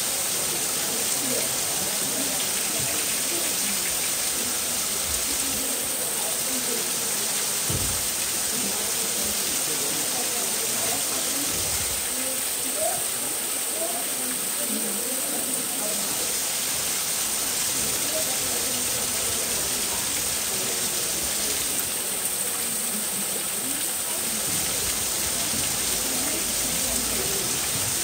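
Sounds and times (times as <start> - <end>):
murmur of distant voices: 0.0 - 28.0
running water rushing: 0.0 - 28.0.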